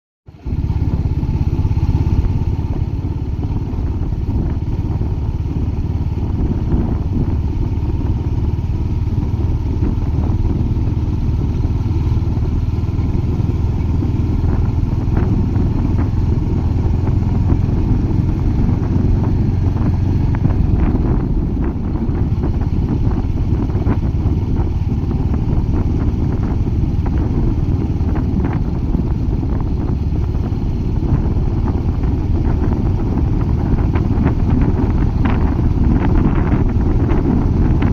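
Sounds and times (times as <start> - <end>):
motorcycle engine running: 0.3 - 37.9.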